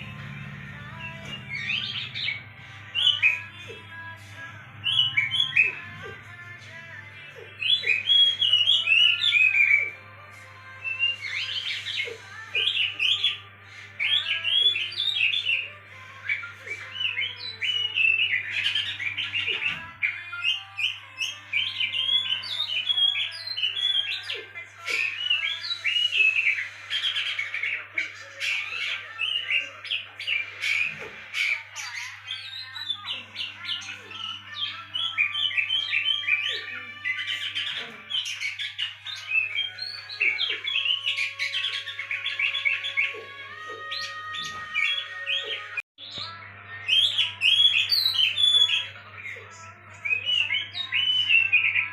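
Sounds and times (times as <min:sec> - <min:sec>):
bird singing chirps and whistles: 0:00.0 - 0:03.7, 0:04.8 - 0:06.1, 0:07.4 - 0:10.0, 0:10.8 - 0:49.0, 0:49.9 - 0:51.9.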